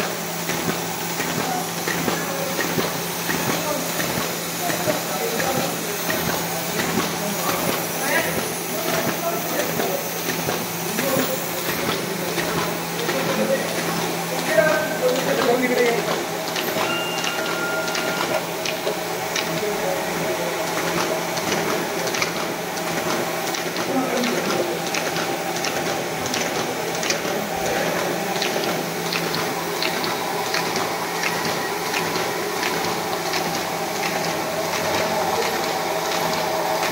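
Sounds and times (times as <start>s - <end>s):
folding machine whirring and clicking: 0.0s - 36.9s.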